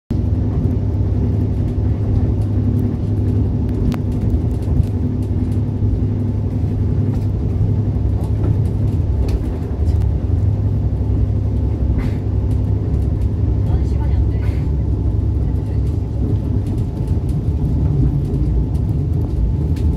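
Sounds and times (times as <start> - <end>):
railcar engine and wheels rumbling: 0.1 - 19.9.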